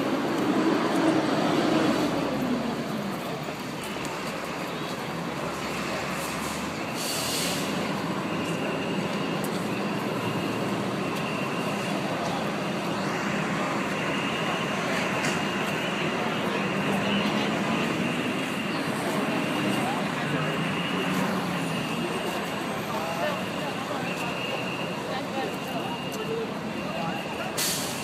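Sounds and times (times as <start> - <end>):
fire engine mechanical drone: 0.0 - 28.0.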